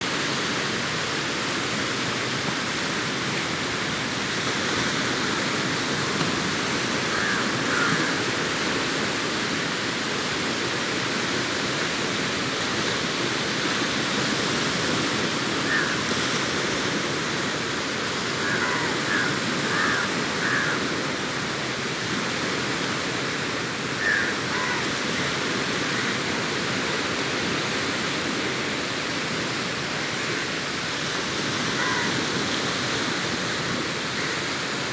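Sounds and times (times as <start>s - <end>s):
sea surf breaking on beach: 0.0s - 34.9s.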